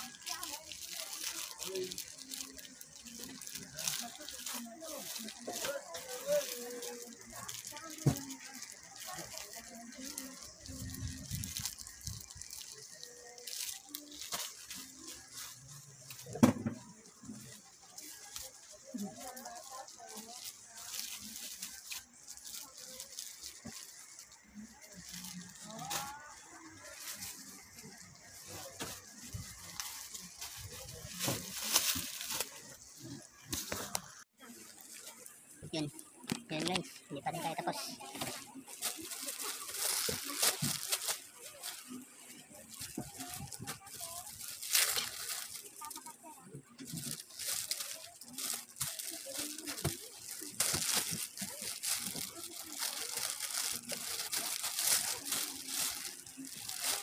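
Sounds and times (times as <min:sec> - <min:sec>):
plastic bags rustling and crinkling: 0:00.0 - 0:57.0.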